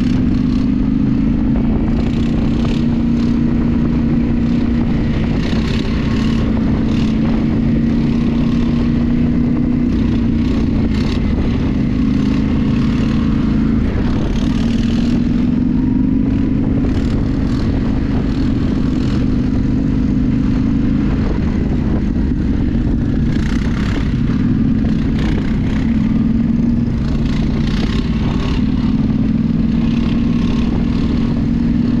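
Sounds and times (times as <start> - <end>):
atv engine revving: 0.0 - 32.0
motorcycle engine running: 0.0 - 32.0
wind noise: 0.0 - 32.0.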